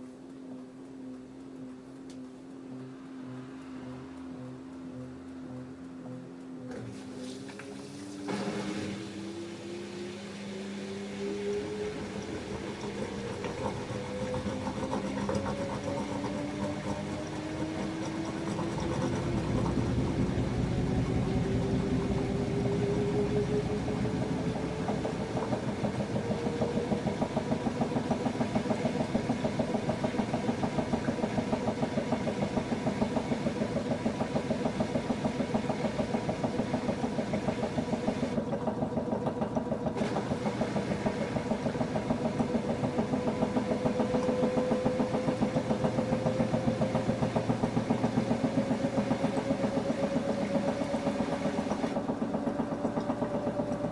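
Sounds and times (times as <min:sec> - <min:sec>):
washing machine drum spinning: 0:00.0 - 0:53.9.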